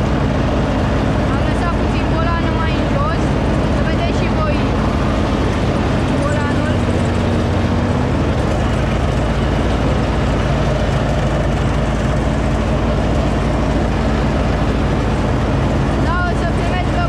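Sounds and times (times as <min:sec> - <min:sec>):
cutting deck rushing noise: 0:00.0 - 0:17.0
riding mower engine drone: 0:00.0 - 0:17.0.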